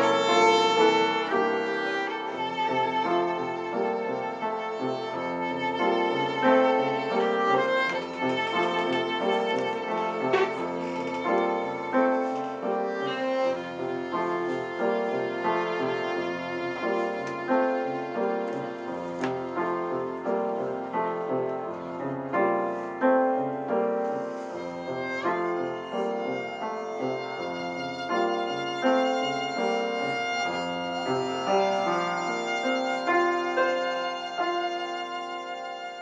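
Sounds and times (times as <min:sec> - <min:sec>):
piano notes: 0:00.0 - 0:36.0
violin melody: 0:00.0 - 0:36.0.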